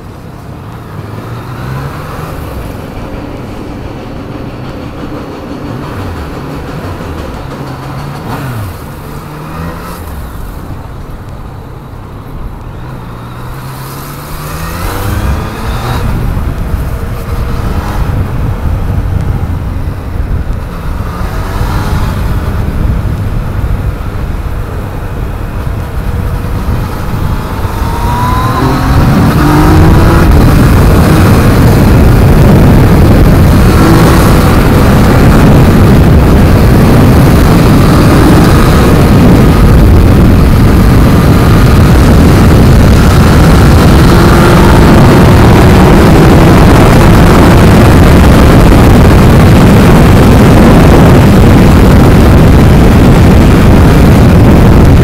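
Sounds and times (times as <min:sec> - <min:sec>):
motorcycle engine accelerating: 0:00.0 - 0:55.0
rush of speed: 0:00.0 - 0:55.0.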